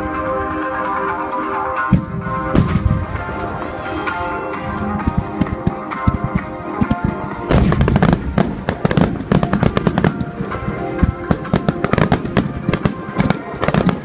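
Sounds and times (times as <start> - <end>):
music playing: 0.0 - 14.0
fireworks bangs: 1.9 - 14.0.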